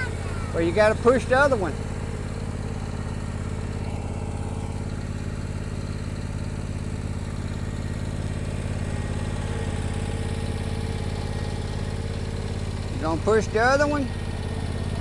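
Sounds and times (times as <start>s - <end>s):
lawnmower engine droning: 0.0s - 15.0s.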